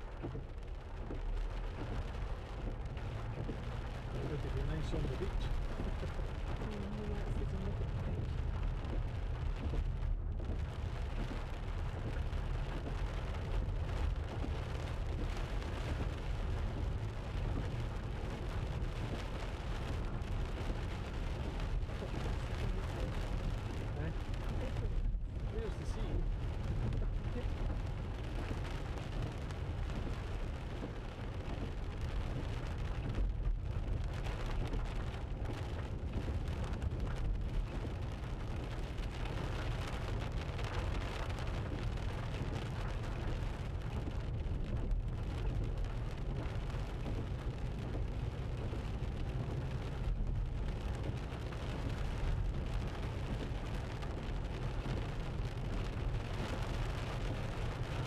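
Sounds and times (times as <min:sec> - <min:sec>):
car engine rumble from inside: 0:00.0 - 0:58.0
tyres on wet road: 0:00.0 - 0:58.0.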